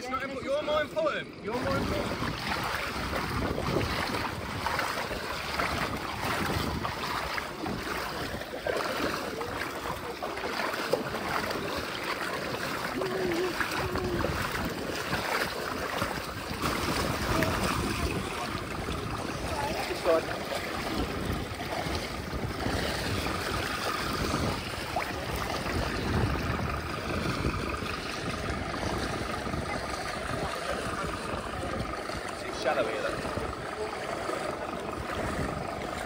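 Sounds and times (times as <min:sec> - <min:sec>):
flowing water rushing: 0:00.0 - 0:36.0
legs splashing through water: 0:00.0 - 0:36.0
wind on microphone: 0:01.4 - 0:36.0.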